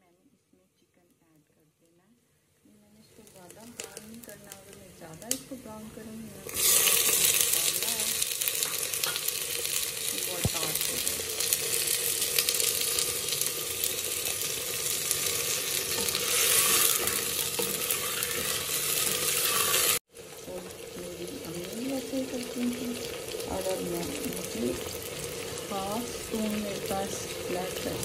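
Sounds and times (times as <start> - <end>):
chicken sizzling in hot oil: 3.1 - 5.5, 6.3 - 28.0.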